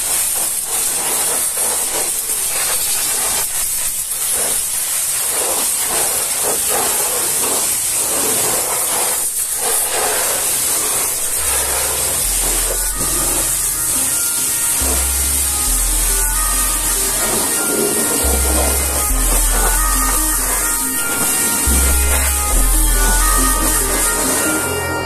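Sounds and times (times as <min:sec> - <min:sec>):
pressure washer spraying: 0:00.0 - 0:24.8.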